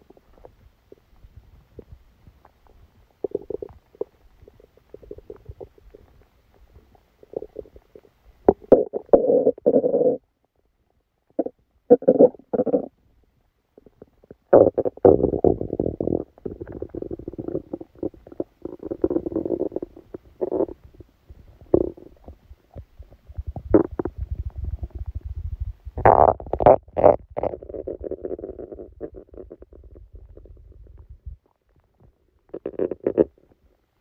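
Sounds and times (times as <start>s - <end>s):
stomach growling and gurgling: 0.0s - 13.0s, 13.8s - 33.8s.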